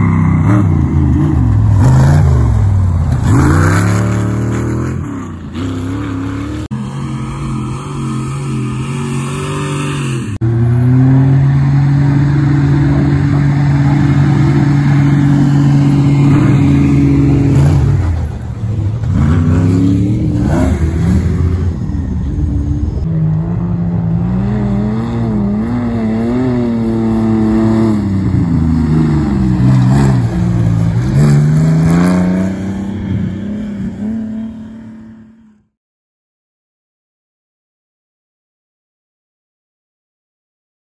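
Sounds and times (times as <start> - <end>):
truck engine revving: 0.0 - 35.6.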